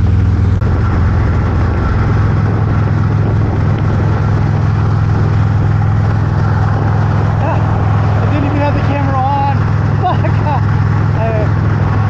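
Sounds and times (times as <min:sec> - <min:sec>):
motorcycle engine droning: 0:00.0 - 0:12.0
rushing noise: 0:00.0 - 0:12.0.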